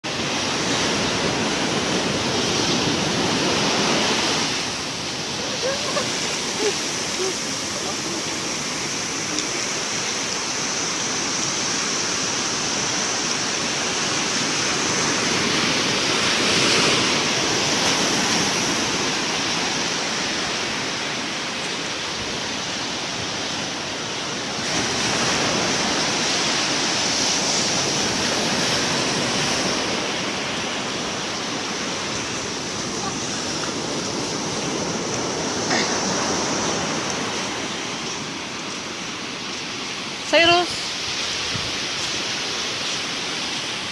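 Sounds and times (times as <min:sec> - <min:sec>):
ocean surf washing in: 0:00.0 - 0:43.9.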